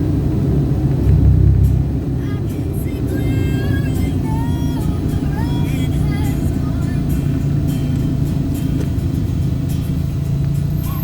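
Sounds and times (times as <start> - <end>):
car rumbling: 0.0 - 11.0
music with bending notes: 0.8 - 11.0.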